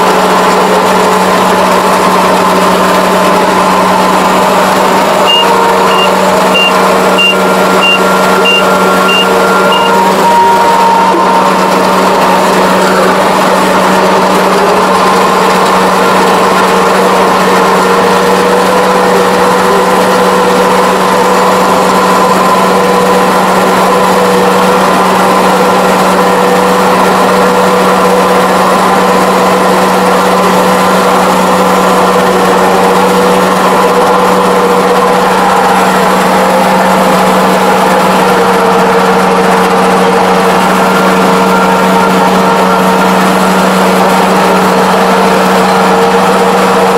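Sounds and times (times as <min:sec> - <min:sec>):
combine harvester engine droning: 0:00.0 - 0:46.9
high machinery whine: 0:00.0 - 0:46.9.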